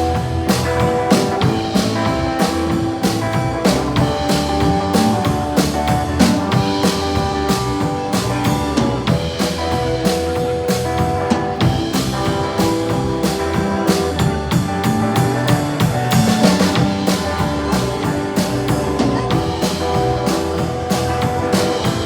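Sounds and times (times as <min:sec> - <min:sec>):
drum kit steady beat: 0:00.0 - 0:22.0
sustained guitar notes: 0:00.0 - 0:22.0.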